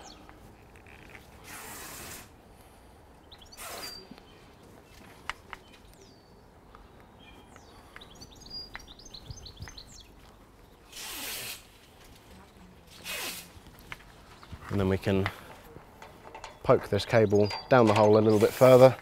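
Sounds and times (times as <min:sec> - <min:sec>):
small birds chirping: 0:00.0 - 0:01.4, 0:02.6 - 0:19.0.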